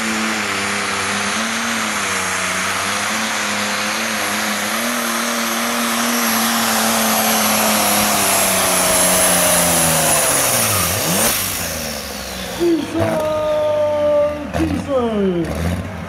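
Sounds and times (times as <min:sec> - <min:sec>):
diesel tractor engine under load: 0:00.0 - 0:16.0.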